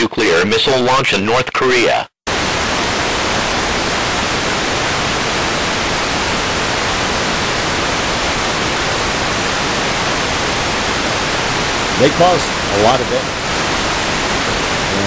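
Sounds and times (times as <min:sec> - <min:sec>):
television static hiss: 0:00.0 - 0:15.0.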